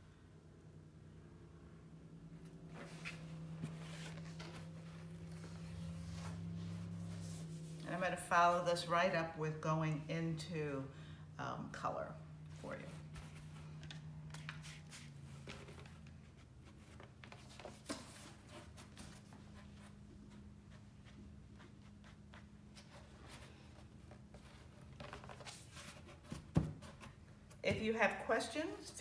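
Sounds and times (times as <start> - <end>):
steady low hum: 0.0 - 28.7.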